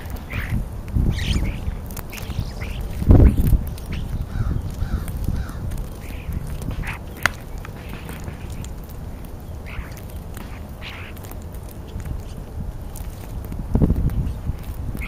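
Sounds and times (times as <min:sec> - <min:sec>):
sharp tick: 0:00.0 - 0:15.0
starlings calling: 0:00.0 - 0:15.0
steady low rumble: 0:00.0 - 0:15.0.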